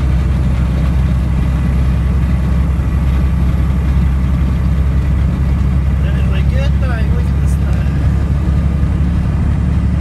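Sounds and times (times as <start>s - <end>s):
diesel truck engine droning: 0.0s - 10.0s
road noise: 0.0s - 10.0s.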